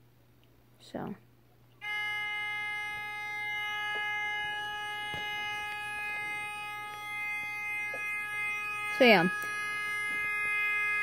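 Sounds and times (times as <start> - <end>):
electronic alarm tone: 1.8 - 11.0.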